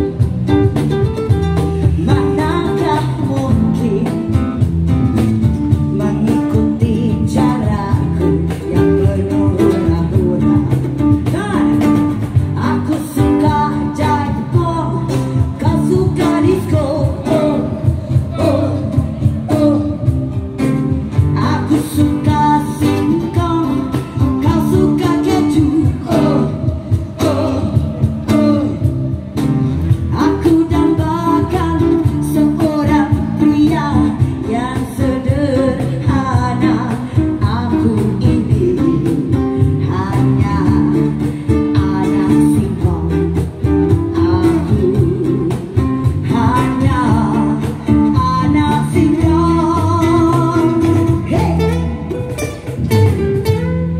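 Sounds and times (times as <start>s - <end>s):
acoustic guitar: 0.0s - 53.9s
electric guitar or bass: 0.0s - 53.9s
woman singing into microphone: 1.5s - 4.7s, 5.4s - 20.5s, 21.1s - 52.2s.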